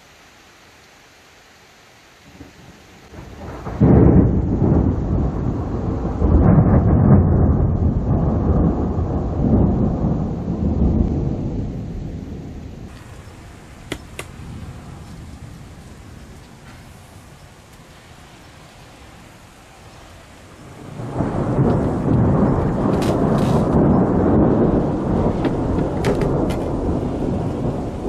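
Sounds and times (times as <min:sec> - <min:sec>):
rain hissing: 0:00.0 - 0:28.0
thunder rumbling: 0:02.3 - 0:28.0.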